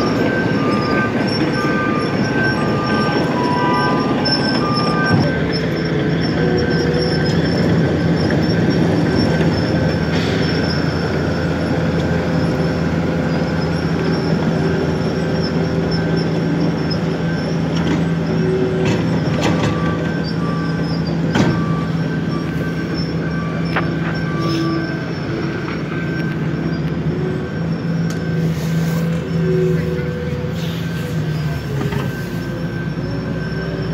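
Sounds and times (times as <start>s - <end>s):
diesel engine drone: 0.0s - 33.9s
high metallic squealing: 0.0s - 33.9s.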